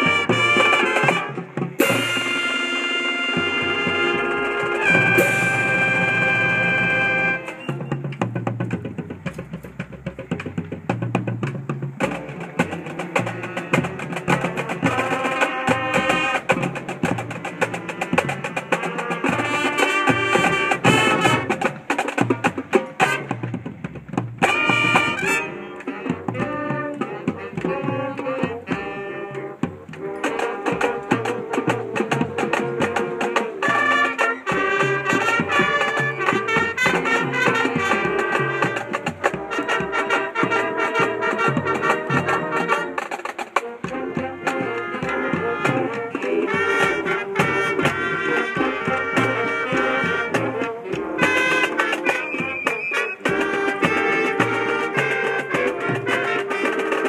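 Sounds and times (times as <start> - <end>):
brass and woodwinds playing: 0.0 - 57.0
steady drum beat: 0.0 - 57.0.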